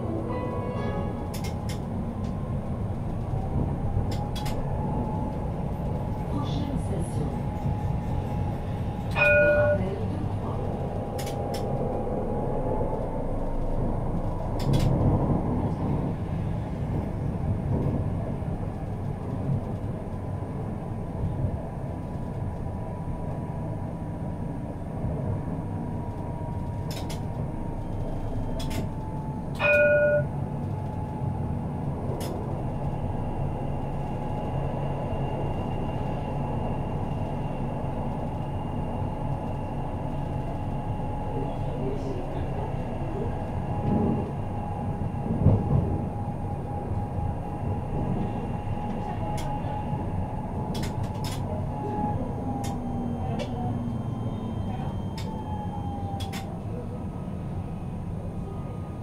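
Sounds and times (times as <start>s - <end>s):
tram wheels rumbling on rail: 0.0s - 59.0s.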